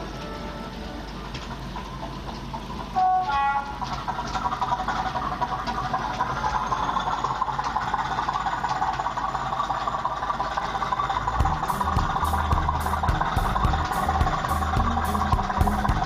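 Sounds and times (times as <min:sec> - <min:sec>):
model train running and rattling: 0:00.0 - 0:16.0.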